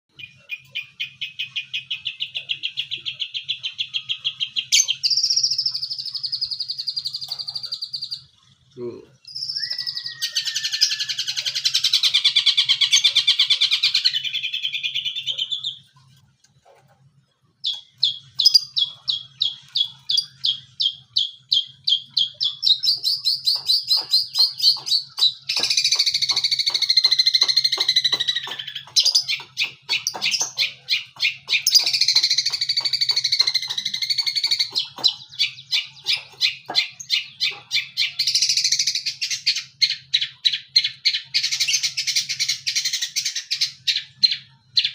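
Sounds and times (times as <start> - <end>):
bird singing fast trills: 0.1 - 15.9, 17.6 - 44.9.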